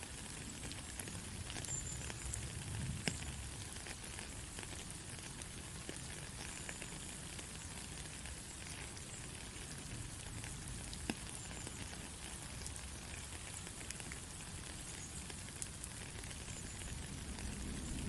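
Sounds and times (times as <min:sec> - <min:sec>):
sharp raindrop ticks: 0:00.0 - 0:18.0
steady rain falling: 0:00.0 - 0:18.0.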